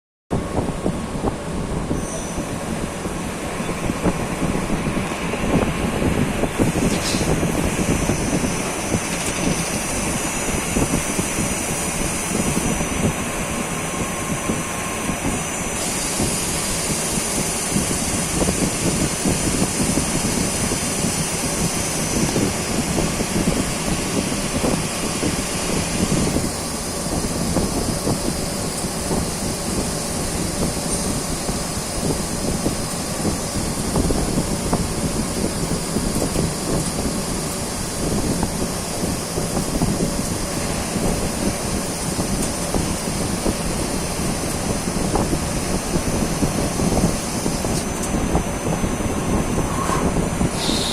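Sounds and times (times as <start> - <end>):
lathe running with high hiss: 1.4 - 50.9.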